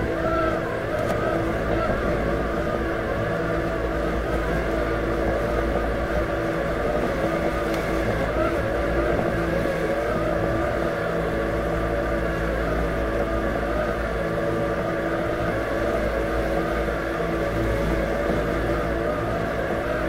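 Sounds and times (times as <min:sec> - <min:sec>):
robotic lawn mower motors humming: 0:00.0 - 0:20.0.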